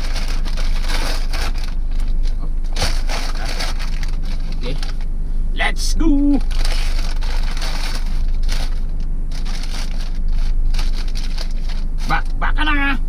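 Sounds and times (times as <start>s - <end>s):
paper wrapping crinkling: 0.0s - 5.1s, 6.3s - 12.4s
steady low hum: 0.0s - 13.0s.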